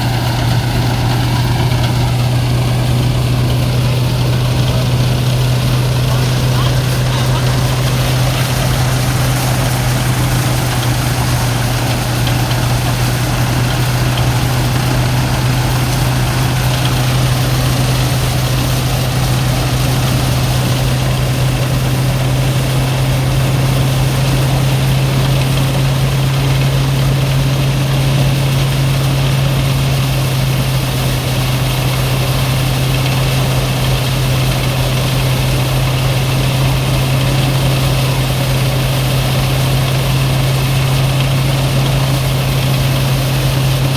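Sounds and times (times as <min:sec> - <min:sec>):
threshing machine running: 0:00.0 - 0:43.9.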